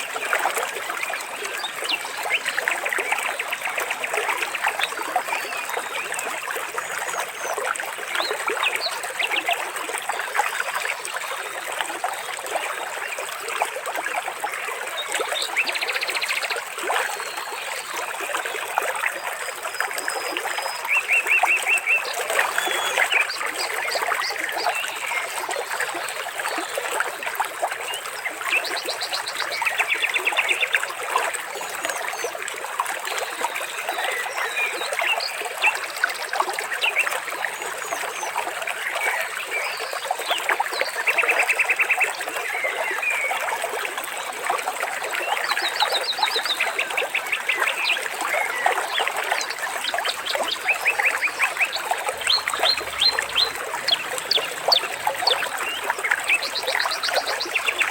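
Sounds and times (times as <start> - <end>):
shallow water babbling: 0.0 - 57.9.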